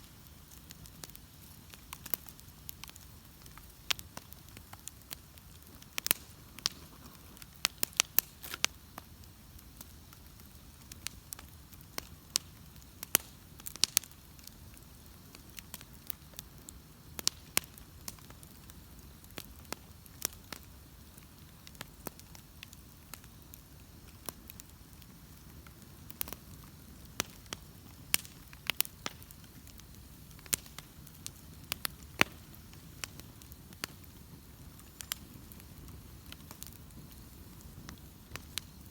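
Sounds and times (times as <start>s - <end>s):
bonfire crackling and popping: 0.0s - 38.9s
low rumble of burning fire: 0.0s - 38.9s.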